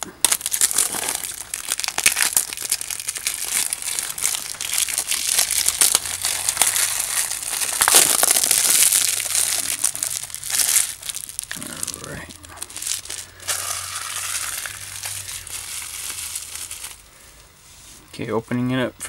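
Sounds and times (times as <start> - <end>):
plastic shrink-wrap crinkling: 0.0 - 17.1.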